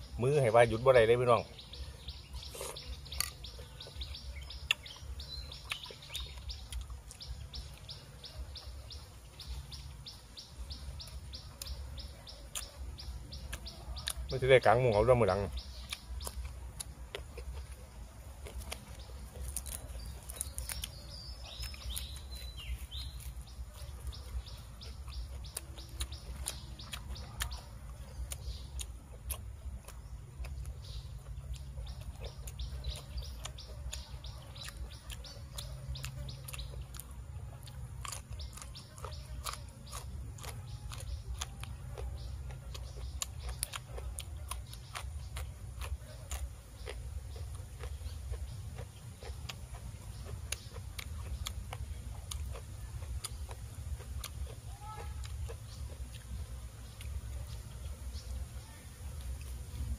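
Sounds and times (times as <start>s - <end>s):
birds chirping: 0.0s - 59.9s
chewing crisp vegetables: 0.0s - 59.9s.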